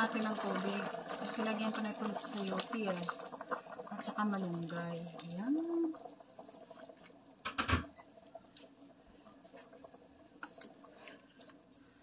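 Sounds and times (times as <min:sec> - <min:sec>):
broth bubbling: 0:00.0 - 0:11.7.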